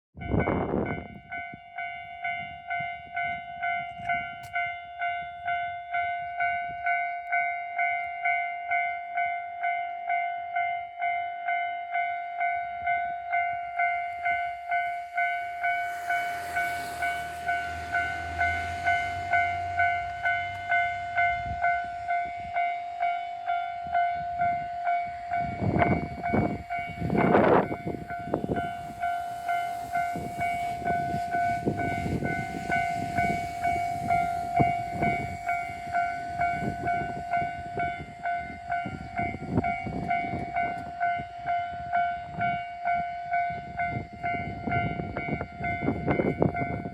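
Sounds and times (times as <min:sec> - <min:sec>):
diesel railcar passing: 0:00.2 - 0:46.9
level-crossing bell ringing: 0:00.2 - 0:46.9.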